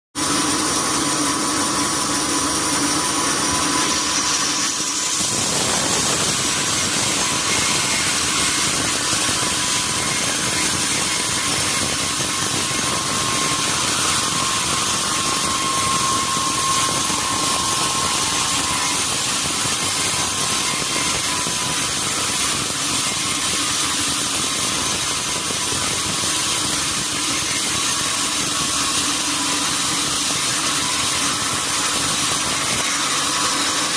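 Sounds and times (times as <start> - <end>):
sawmill saw cutting log: 0.2 - 33.9.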